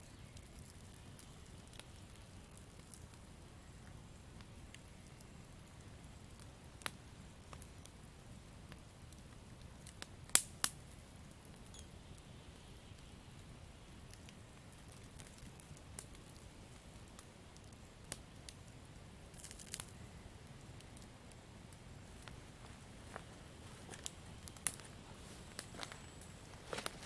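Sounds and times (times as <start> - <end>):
campfire crackling and popping: 0.0 - 27.0
low steady hiss: 0.0 - 27.0.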